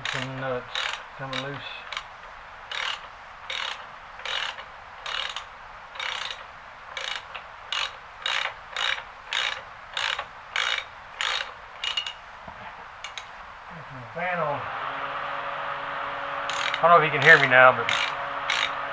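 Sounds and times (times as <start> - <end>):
ratchet wrench clicking: 0.0 - 13.6, 16.5 - 18.8.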